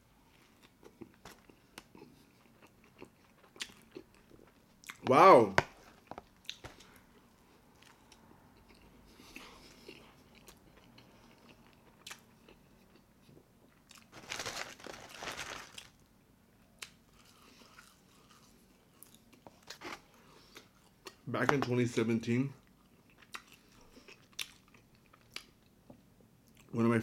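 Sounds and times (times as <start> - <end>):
person chewing food: 0.3 - 15.9, 16.8 - 21.2, 22.6 - 25.7.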